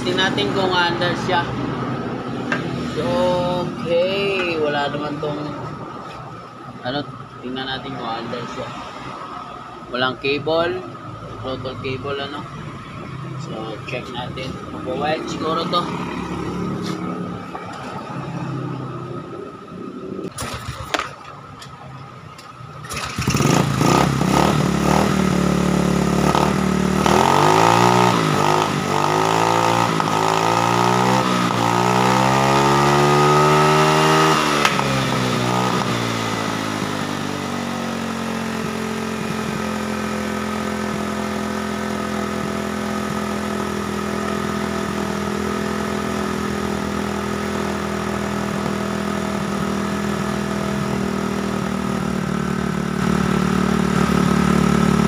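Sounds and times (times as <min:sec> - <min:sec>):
scooter engine revving and idling: 0:00.0 - 0:08.7, 0:11.4 - 0:21.8, 0:22.4 - 0:55.0.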